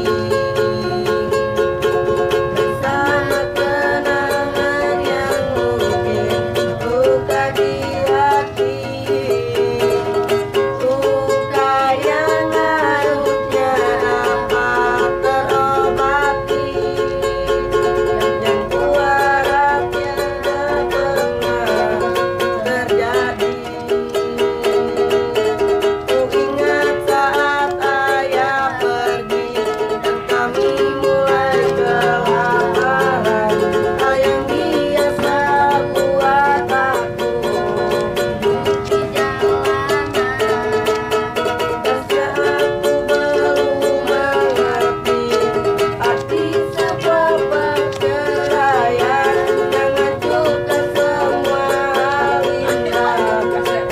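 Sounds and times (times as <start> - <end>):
person singing: 0.0 - 53.9
ukulele strumming chords: 0.0 - 53.9.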